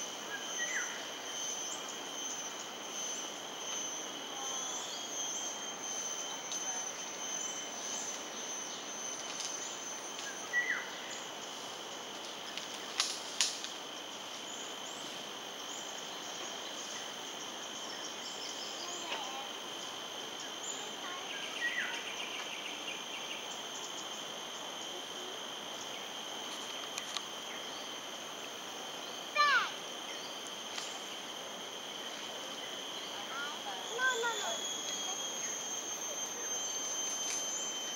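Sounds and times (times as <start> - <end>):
high-pitched insect drone: 0.0 - 37.9.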